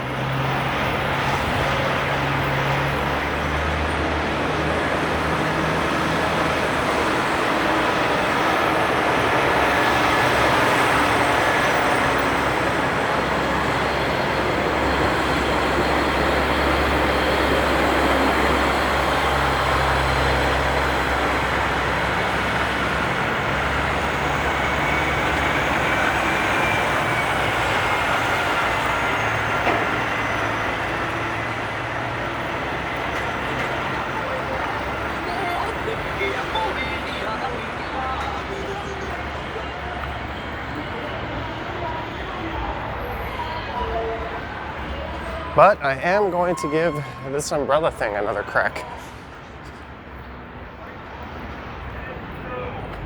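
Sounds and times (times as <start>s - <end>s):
heavy vehicle engines humming: 0.0s - 53.0s
road noise: 0.0s - 53.0s.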